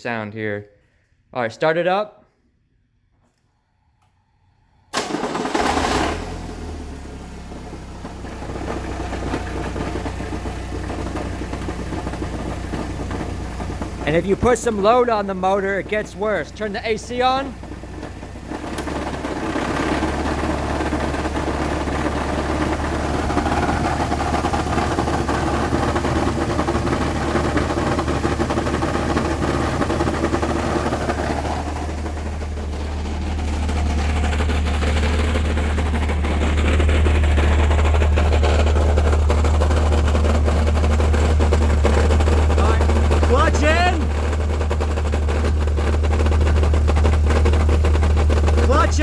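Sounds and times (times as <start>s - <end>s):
engine running with knocking: 5.5s - 49.0s.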